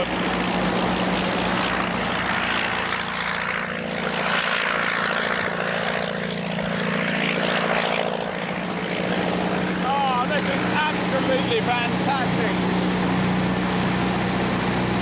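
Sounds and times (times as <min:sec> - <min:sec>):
biplane engine running: 0:00.0 - 0:15.0
rushing propeller noise: 0:00.0 - 0:15.0.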